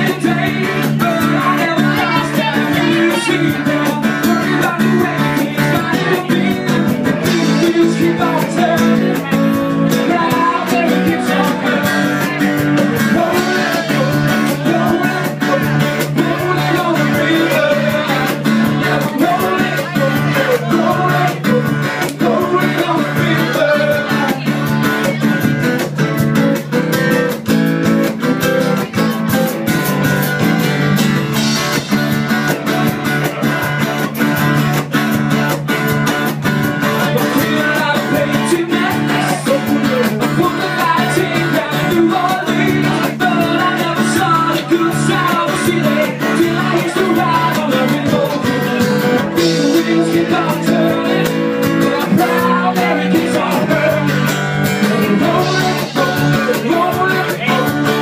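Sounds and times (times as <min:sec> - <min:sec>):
person singing: 0:00.0 - 0:26.7, 0:34.8 - 0:58.0
electric guitar: 0:00.0 - 0:58.0
steady drum beat: 0:00.0 - 0:58.0.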